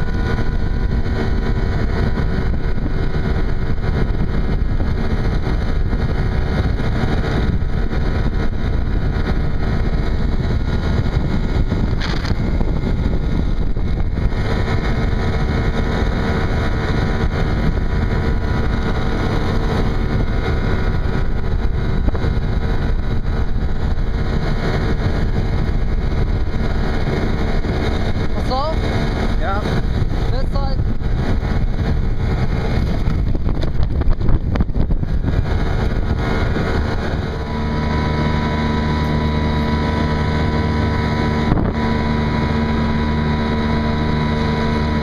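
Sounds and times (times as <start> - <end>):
outboard motor running: 0.0 - 45.0
wind rumbling on microphone: 0.0 - 45.0.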